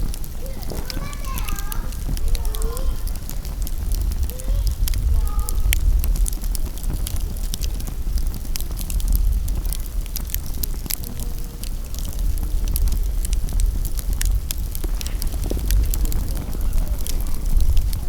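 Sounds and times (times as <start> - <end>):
campfire crackling and popping: 0.0 - 18.0
steady low rumble: 0.0 - 18.0.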